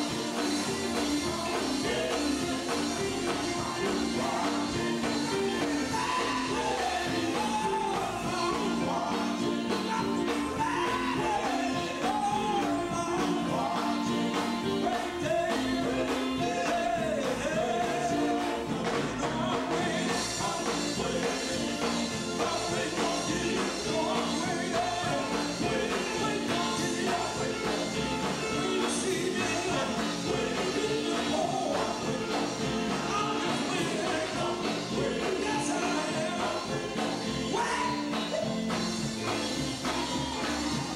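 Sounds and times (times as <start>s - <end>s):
gospel quartet music: 0.0s - 40.9s
lead vocal singing: 0.0s - 40.9s.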